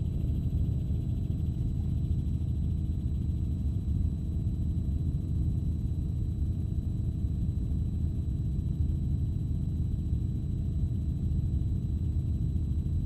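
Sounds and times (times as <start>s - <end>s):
helicopter engine and rotor rumble: 0.0s - 13.0s.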